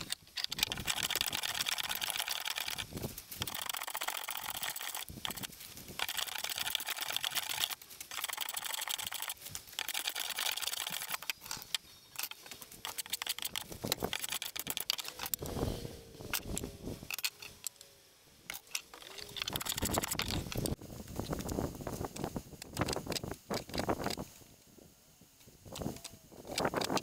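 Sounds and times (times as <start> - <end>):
wooden pieces clicking and knocking: 0.0 - 15.5, 16.3 - 17.8, 18.4 - 24.2, 25.7 - 27.0.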